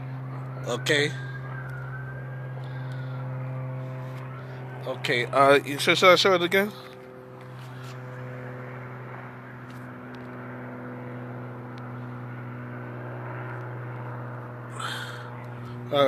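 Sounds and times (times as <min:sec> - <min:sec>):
constant low hum: 0:00.0 - 0:16.0
distant airplane drone: 0:00.0 - 0:16.0.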